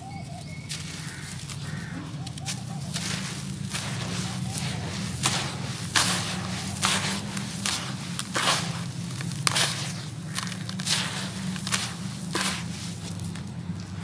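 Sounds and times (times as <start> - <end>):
steady low hum: 0.4 - 14.0.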